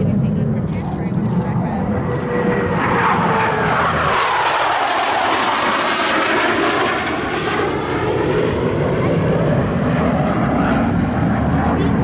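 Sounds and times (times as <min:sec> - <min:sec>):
jet flying past: 0:00.0 - 0:12.0.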